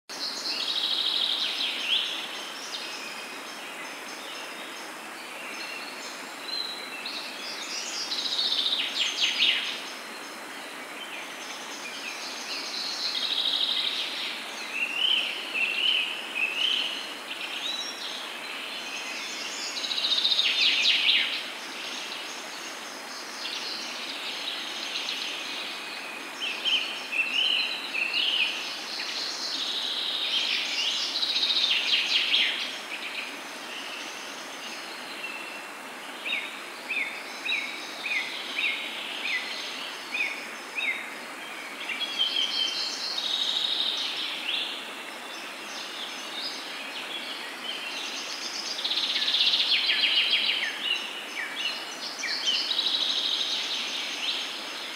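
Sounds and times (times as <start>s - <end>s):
steady background hiss: 0.1s - 54.9s.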